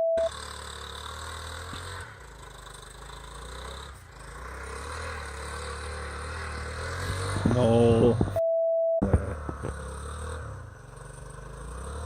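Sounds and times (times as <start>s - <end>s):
distant motorcycle engine humming: 0.0s - 8.4s, 9.0s - 12.0s.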